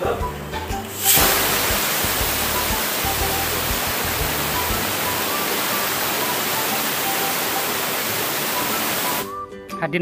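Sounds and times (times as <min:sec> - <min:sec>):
pressure cooker hissing steam: 0:00.9 - 0:09.3.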